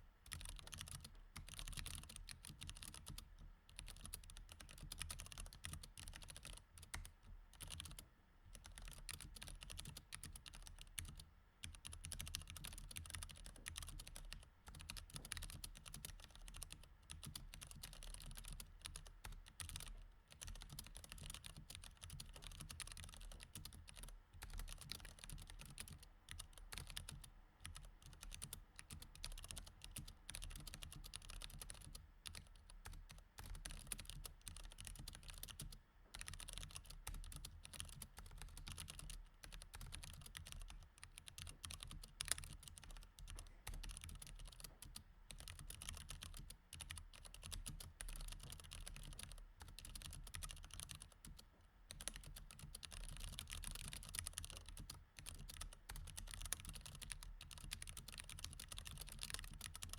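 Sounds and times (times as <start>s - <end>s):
typing on mechanical keyboard: 0.3s - 59.9s.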